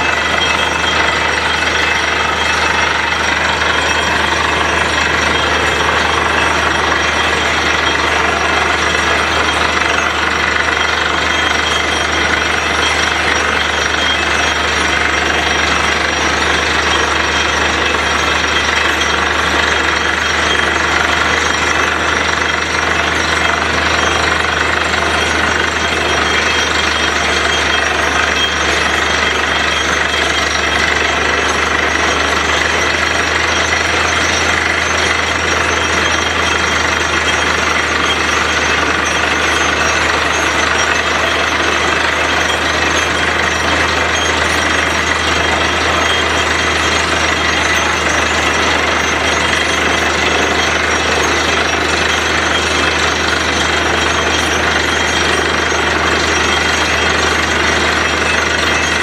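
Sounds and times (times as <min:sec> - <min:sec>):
drilling rig engine and machinery: 0:00.0 - 0:59.0
rapid hammering: 0:00.0 - 0:59.0.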